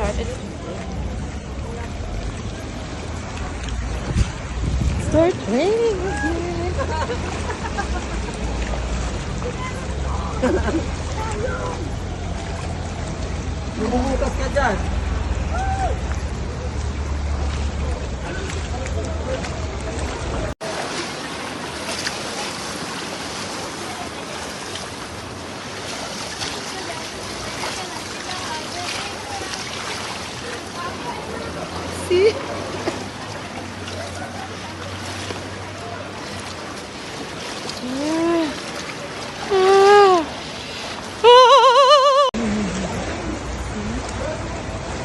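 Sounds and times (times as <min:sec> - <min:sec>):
heavy rain and rushing water: 0:00.0 - 0:45.0.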